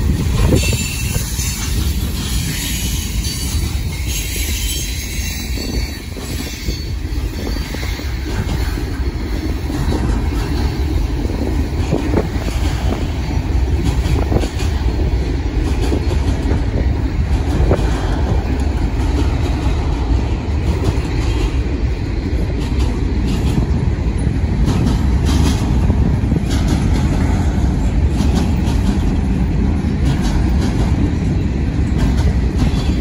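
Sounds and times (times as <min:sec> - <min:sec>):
train wheels rumbling on rails: 0:00.0 - 0:33.0
wheels clicking over rail joints: 0:00.0 - 0:33.0.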